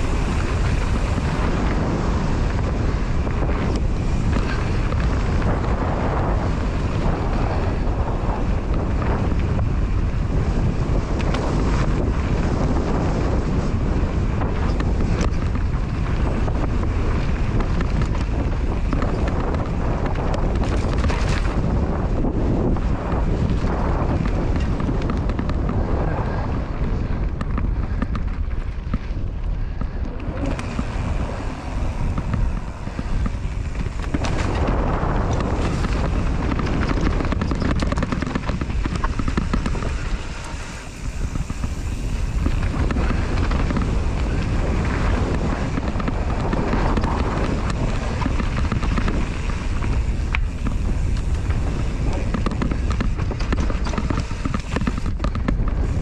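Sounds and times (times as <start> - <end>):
bike rattling and clicking: 0.0 - 56.0
tyres rumbling on dirt: 0.0 - 56.0
wind buffeting microphone: 0.0 - 56.0.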